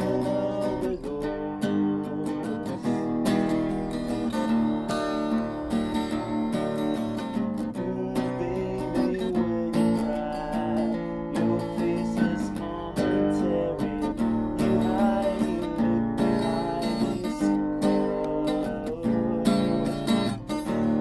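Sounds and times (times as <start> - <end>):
acoustic guitar strumming blues: 0.0 - 21.0.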